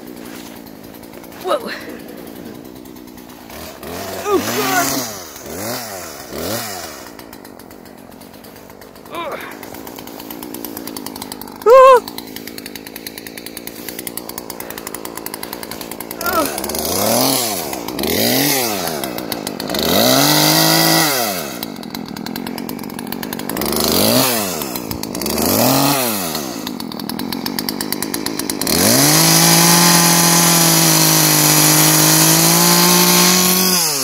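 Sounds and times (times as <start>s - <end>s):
chainsaw revving and cutting: 0.0s - 34.0s.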